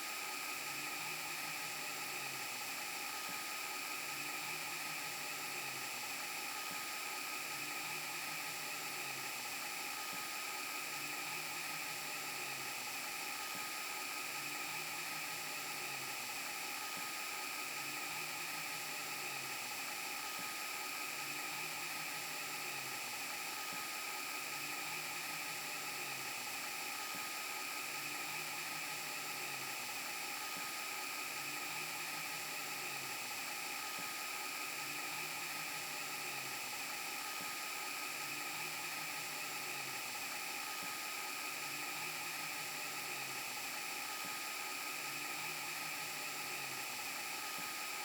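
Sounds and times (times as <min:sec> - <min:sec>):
hissing whirring tape static: 0:00.0 - 0:48.0.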